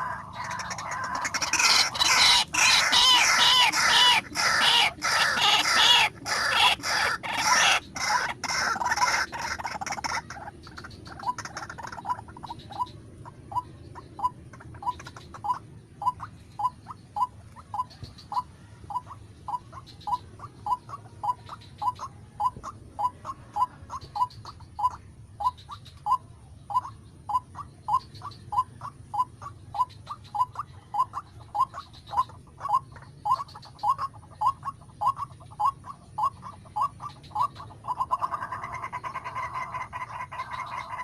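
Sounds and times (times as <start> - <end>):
waterhen calling: 0.0 - 41.0.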